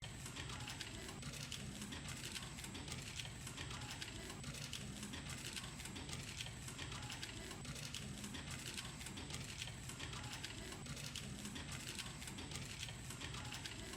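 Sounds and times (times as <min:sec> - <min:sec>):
rapid mechanical clicking: 0:00.0 - 0:13.9.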